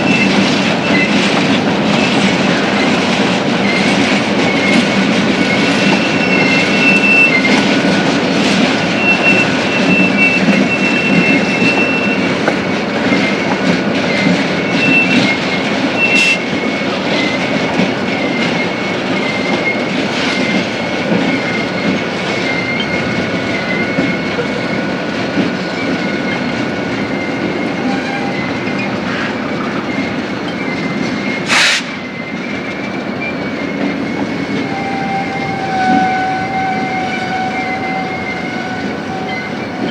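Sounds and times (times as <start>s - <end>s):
freight car wheels rumbling and clicking: 0.0s - 34.7s
high wheel squeal: 0.0s - 39.9s.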